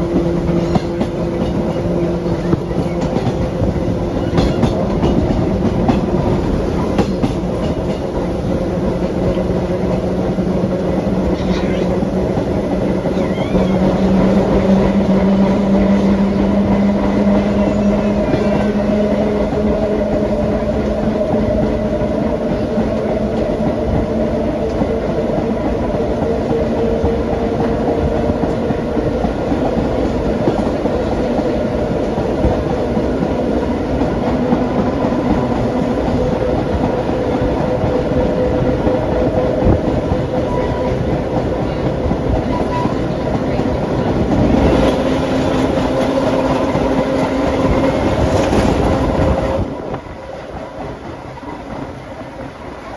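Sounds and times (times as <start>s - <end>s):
wheel and rail noise: 0.0s - 52.9s.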